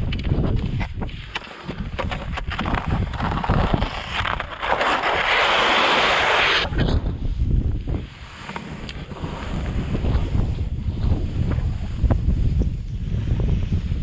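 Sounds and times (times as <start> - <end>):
wind buffeting microphone: 0.0 - 5.1, 5.9 - 14.0.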